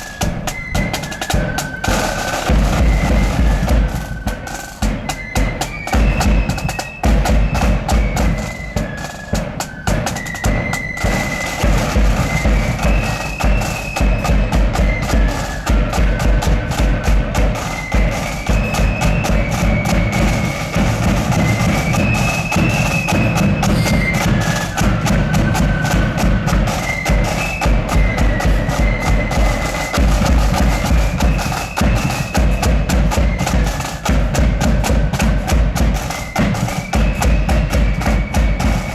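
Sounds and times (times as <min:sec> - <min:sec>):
bass drum and snare drum beat: 0:00.0 - 0:38.9
flutes playing melody: 0:00.0 - 0:38.9.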